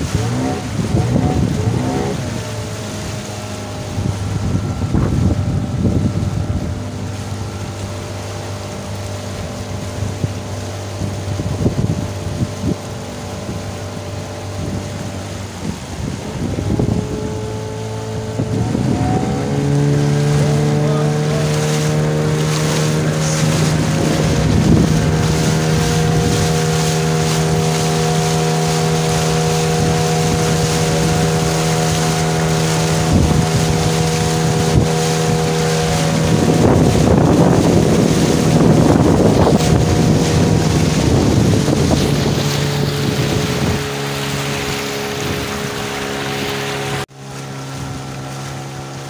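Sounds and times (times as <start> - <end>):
outboard motor running: 0.0 - 49.0
water rushing along a hull: 0.0 - 49.0
wind on microphone: 0.0 - 49.0.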